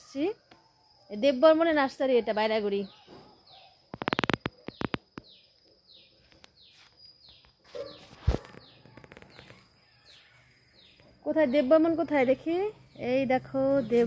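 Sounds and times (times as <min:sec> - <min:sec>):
bird chirping: 0:02.4 - 0:14.0.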